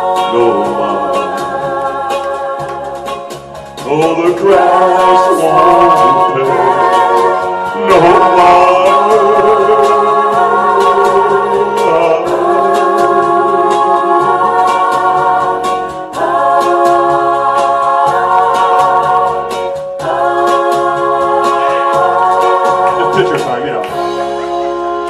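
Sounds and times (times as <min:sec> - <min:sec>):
backing vocals: 0:00.0 - 0:03.2, 0:03.8 - 0:24.7
person singing with vibrato: 0:00.0 - 0:25.0
pop ballad backing track: 0:00.0 - 0:25.0.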